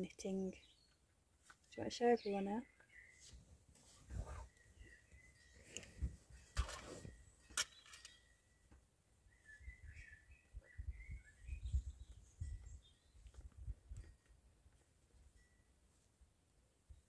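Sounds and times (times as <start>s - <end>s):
faint bird chirping: 0.0s - 13.7s.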